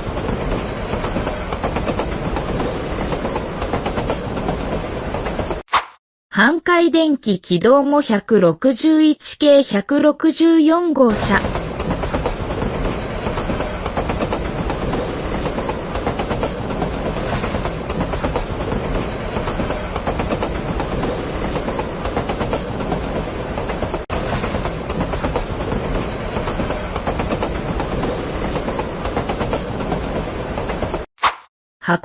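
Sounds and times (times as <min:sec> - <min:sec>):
streetcar wheels on rails: 0:00.0 - 0:05.6, 0:06.6 - 0:31.1.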